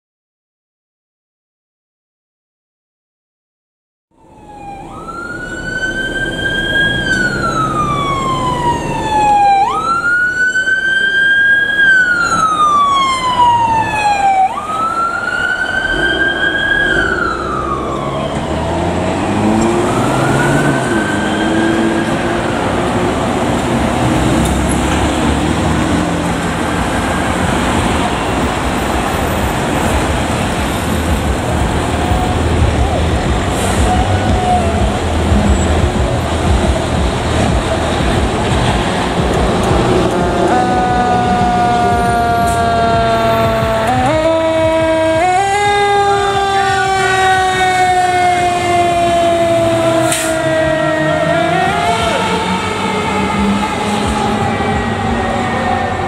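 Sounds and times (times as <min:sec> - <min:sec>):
emergency siren wailing: 0:04.1 - 0:56.0
engine and road noise: 0:04.1 - 0:56.0.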